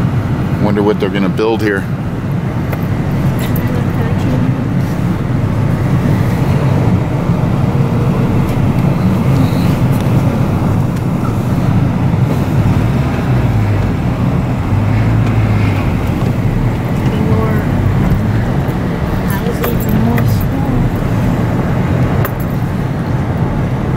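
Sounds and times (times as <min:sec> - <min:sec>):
car road and engine noise: 0:00.0 - 0:23.9.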